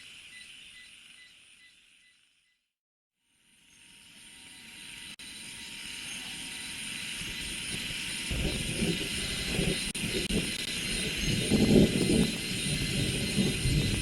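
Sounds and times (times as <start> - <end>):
cicadas and insects droning: 0.0 - 2.5, 3.3 - 14.0.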